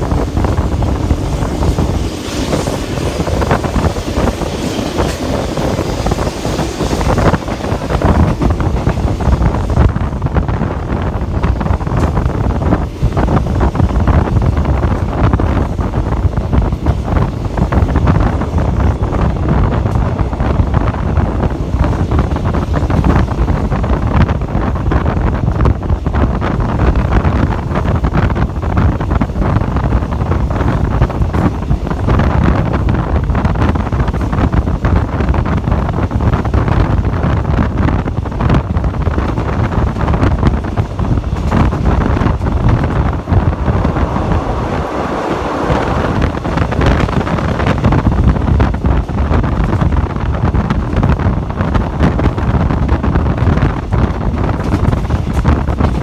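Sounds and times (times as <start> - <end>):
train carriage rumbling on rails: 0.0 - 56.0
wind buffeting microphone: 0.0 - 56.0.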